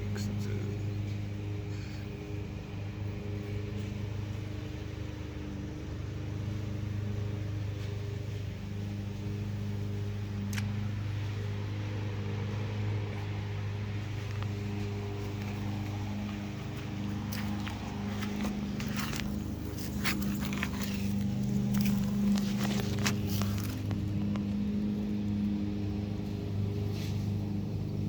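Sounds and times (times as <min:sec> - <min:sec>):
car engine humming: 0:00.0 - 0:28.0.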